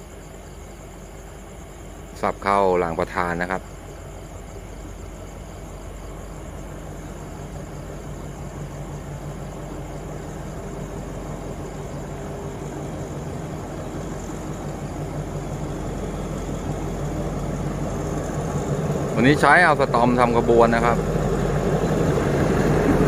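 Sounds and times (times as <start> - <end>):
diesel locomotive humming: 0.0 - 23.0.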